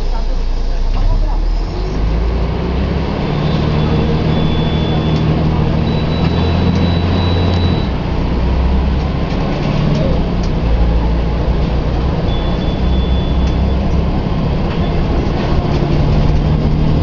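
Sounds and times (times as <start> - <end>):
diesel bus engine running: 0.0 - 17.0.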